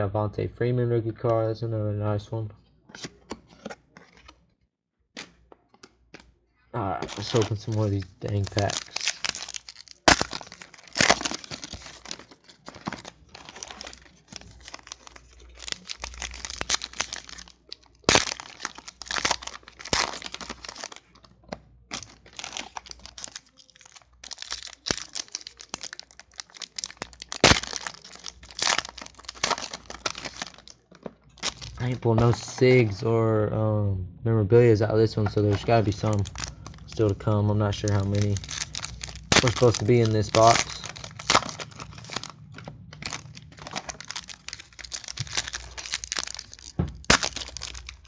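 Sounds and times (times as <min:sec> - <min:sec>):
foil wrappers crinkling and tearing: 0:06.8 - 0:32.8, 0:35.2 - 0:48.0.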